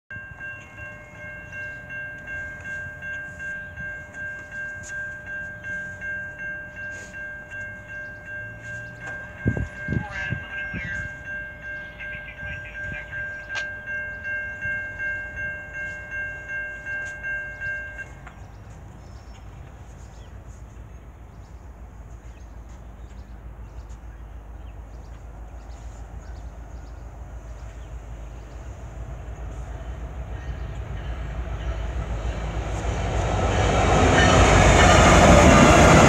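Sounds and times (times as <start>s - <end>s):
railroad crossing bell ringing: 0.1s - 36.0s.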